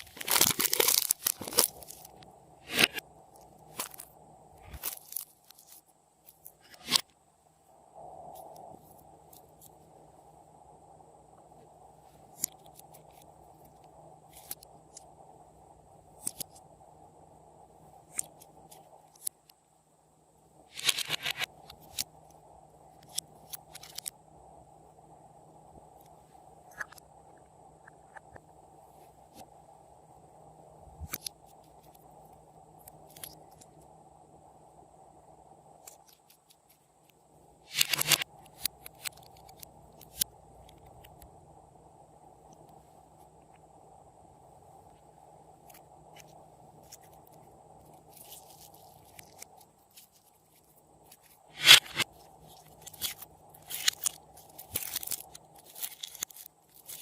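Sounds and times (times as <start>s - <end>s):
steady low hiss: 0.0s - 57.0s
steady low hum: 0.0s - 57.0s.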